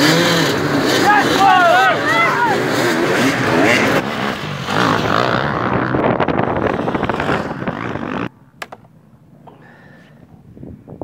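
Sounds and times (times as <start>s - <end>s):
dirt bike engines running: 0.0s - 10.1s
loud dense outdoor noise: 0.0s - 11.0s.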